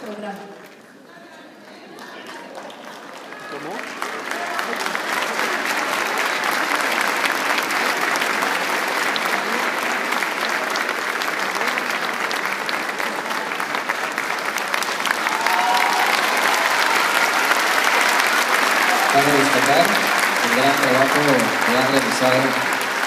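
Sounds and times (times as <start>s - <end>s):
large audience applauding: 0.0s - 23.0s.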